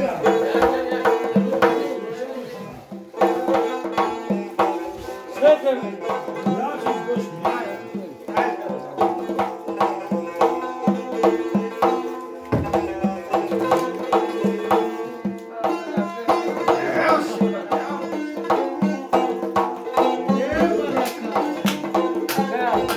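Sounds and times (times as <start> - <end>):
frame drum beating: 0.0 - 2.1, 2.9 - 22.9
plucked lute notes: 0.0 - 22.9.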